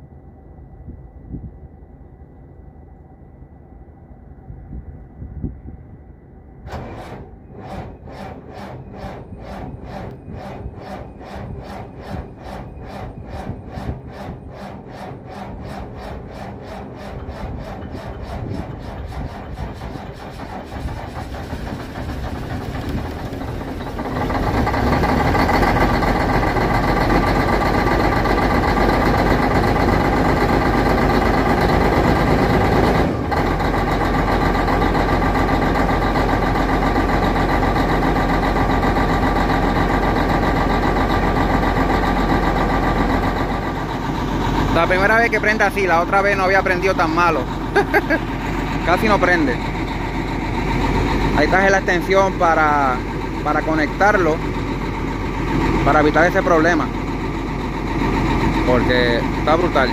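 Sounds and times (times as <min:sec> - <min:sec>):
diesel engine cranking and starting: 0:06.7 - 0:59.9.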